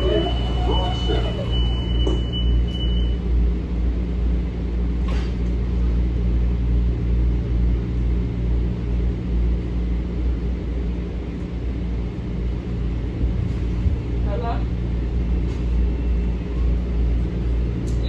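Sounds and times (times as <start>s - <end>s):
train car rumble and hum: 0.0s - 18.0s.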